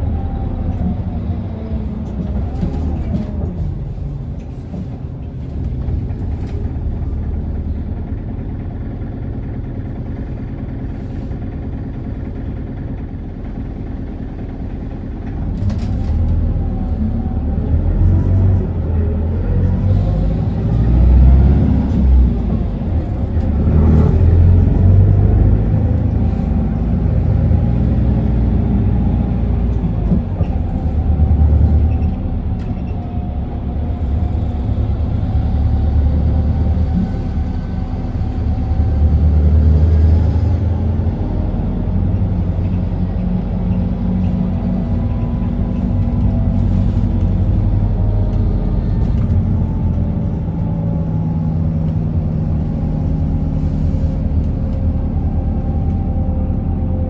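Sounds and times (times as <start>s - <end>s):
bus engine humming: 0.0s - 57.0s
road noise: 0.0s - 57.0s.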